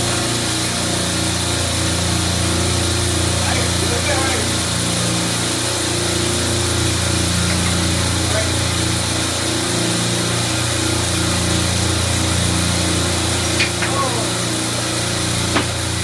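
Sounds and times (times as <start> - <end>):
refrigeration compressors humming: 0.0 - 16.0.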